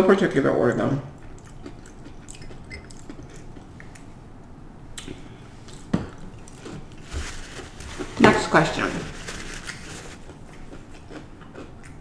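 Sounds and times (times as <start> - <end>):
person chewing food: 1.1 - 8.2, 9.4 - 12.0.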